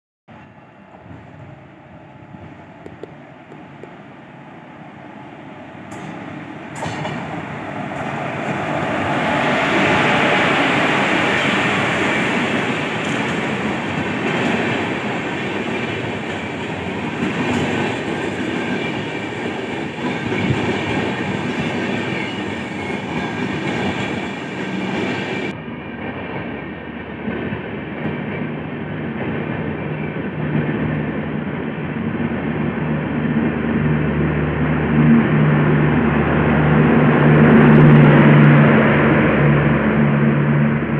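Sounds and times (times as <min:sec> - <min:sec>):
coach wheels rumbling on rails: 0:00.3 - 0:40.9
passenger train passing: 0:00.3 - 0:40.9.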